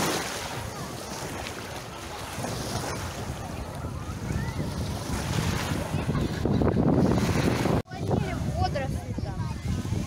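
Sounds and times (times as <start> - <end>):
small waves lapping on shore: 0.0 - 10.0
wind on microphone: 0.0 - 10.0.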